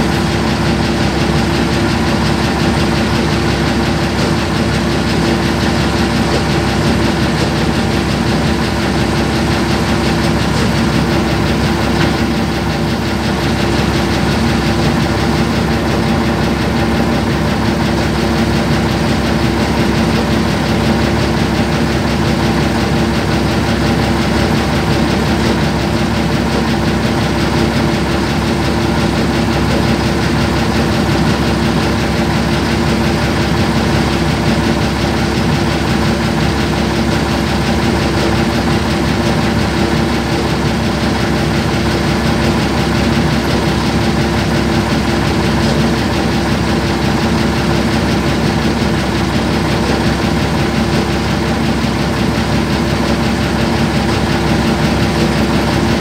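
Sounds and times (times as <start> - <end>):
heavy machine engine idling: 0.0 - 56.0.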